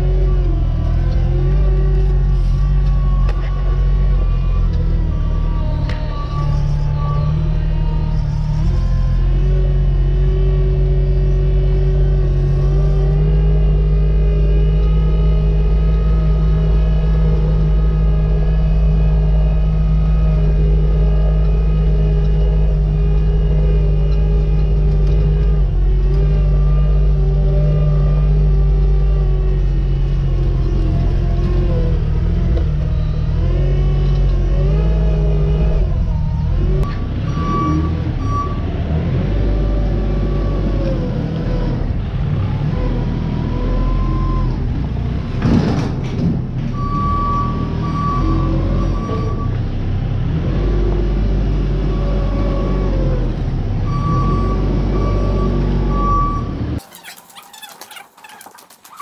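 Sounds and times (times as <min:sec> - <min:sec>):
diesel engine running: 0:00.0 - 0:57.6.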